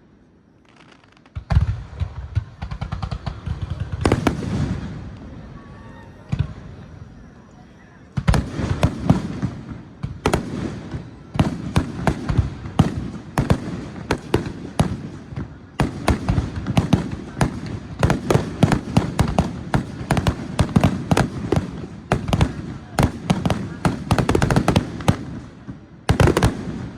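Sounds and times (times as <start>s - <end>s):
fireworks bangs with rumbling echo: 0.7s - 7.0s, 8.1s - 26.9s.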